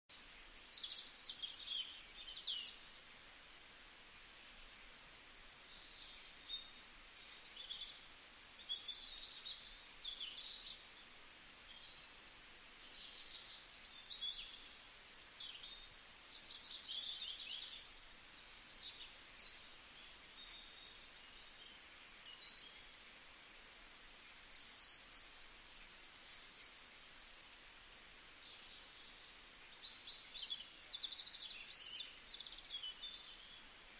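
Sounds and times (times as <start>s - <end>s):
faint steady hiss: 0.1s - 33.9s
small birds chirping: 0.1s - 33.9s.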